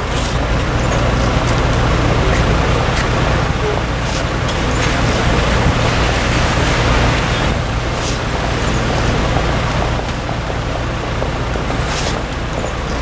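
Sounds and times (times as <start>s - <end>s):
car engine idling: 0.0s - 13.0s
traffic on a wet road: 0.0s - 13.0s.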